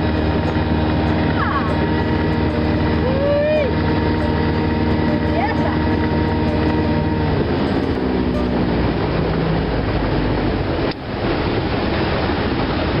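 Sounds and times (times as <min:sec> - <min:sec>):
outboard motor running: 0:00.0 - 0:13.0
wind and water rushing: 0:00.0 - 0:13.0.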